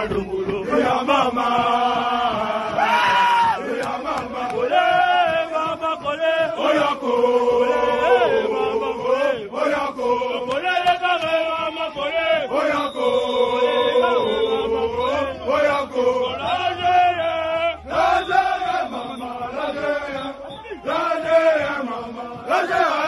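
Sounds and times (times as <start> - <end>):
crowd chanting in unison: 0.0 - 23.0.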